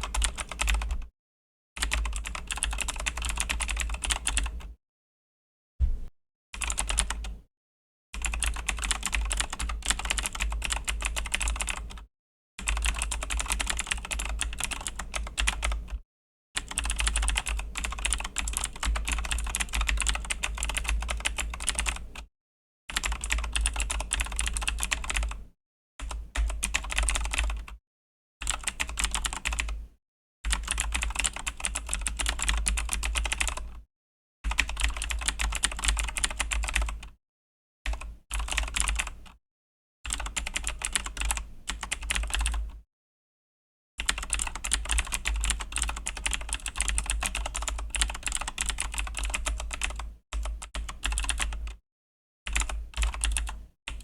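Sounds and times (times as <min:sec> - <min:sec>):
fast typing on clicky keyboard: 0:00.0 - 0:01.1, 0:01.8 - 0:04.7, 0:06.6 - 0:07.4, 0:08.2 - 0:16.0, 0:16.6 - 0:22.3, 0:22.9 - 0:25.4, 0:26.0 - 0:27.8, 0:28.4 - 0:29.8, 0:30.5 - 0:33.8, 0:34.5 - 0:37.2, 0:37.9 - 0:39.4, 0:40.1 - 0:42.8, 0:44.0 - 0:51.8, 0:52.5 - 0:54.0.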